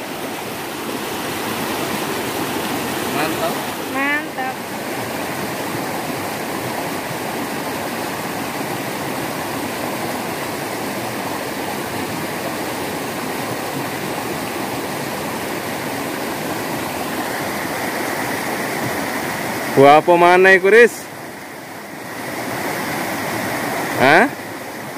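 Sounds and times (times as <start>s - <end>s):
river rushing over stones: 0.0s - 24.9s.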